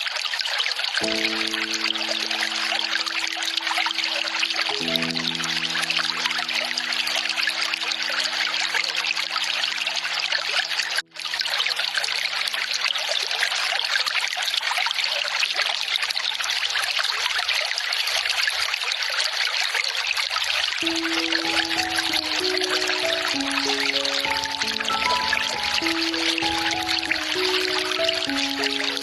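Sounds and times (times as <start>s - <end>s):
water trickling from a spout: 0.0s - 29.0s.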